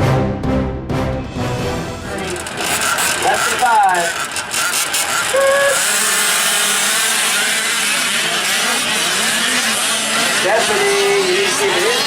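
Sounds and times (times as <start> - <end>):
small two-stroke engines running: 2.0 - 12.0.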